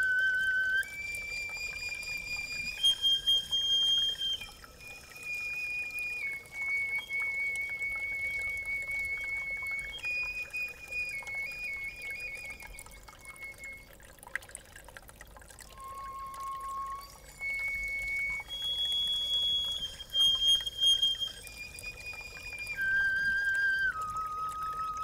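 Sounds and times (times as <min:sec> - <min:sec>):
bone flute high notes: 0:00.0 - 0:13.9, 0:15.7 - 0:25.0
trickling water: 0:00.0 - 0:25.0.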